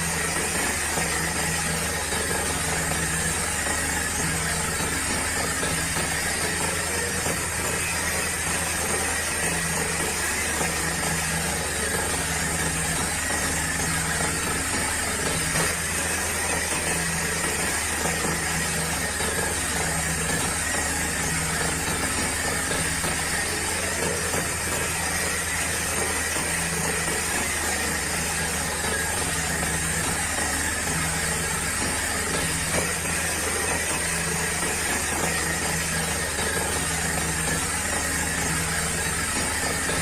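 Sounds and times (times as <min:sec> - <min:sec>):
small motors buzzing hum: 0:00.0 - 0:40.0.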